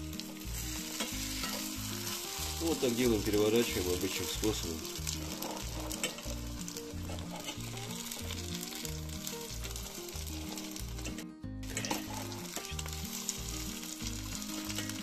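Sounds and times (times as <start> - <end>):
background music with low notes: 0.0 - 15.0
cutlets sizzling in a frying pan: 0.0 - 15.0
metal spatula turning food: 0.2 - 15.0.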